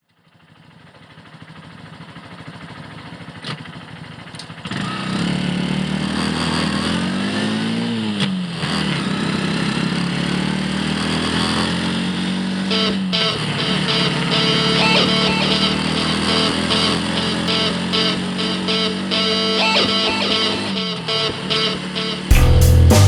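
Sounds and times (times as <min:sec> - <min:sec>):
motorcycle engine revving: 0:00.2 - 0:23.0.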